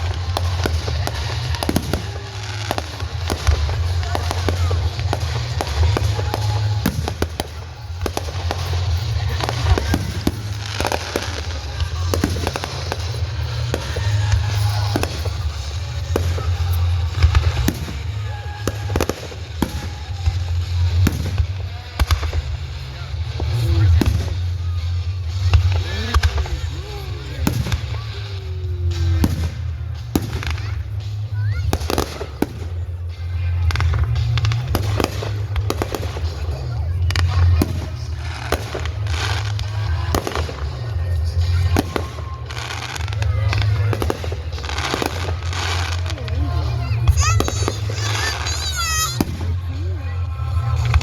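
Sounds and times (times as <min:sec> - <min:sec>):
fireworks bangs: 0:00.0 - 0:51.0
fireworks crackling: 0:00.0 - 0:51.0.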